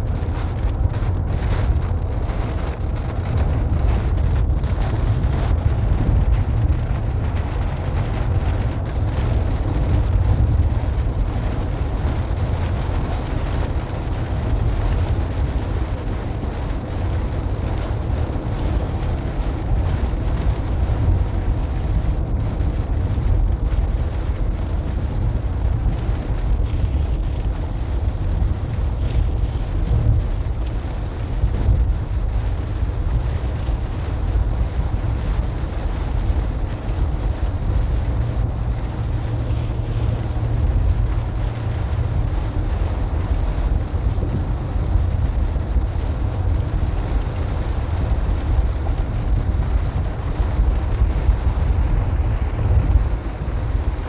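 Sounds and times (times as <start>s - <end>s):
car driving rumble: 0.0s - 54.0s
rain and spray hiss: 0.0s - 54.0s.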